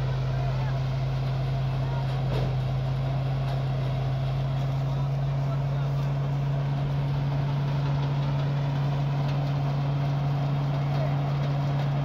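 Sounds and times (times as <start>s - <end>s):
thresher machine droning: 0.0s - 12.0s.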